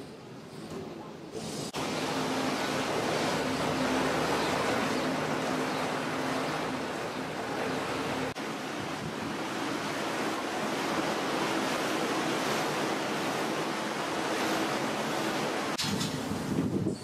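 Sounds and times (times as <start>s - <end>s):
wind: 0.0s - 17.0s
rushing water: 1.4s - 17.0s.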